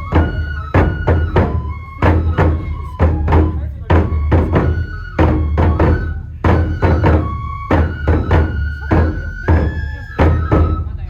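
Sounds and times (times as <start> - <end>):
bamboo flute high notes: 0.0 - 11.0
taiko drum strokes: 0.0 - 11.0.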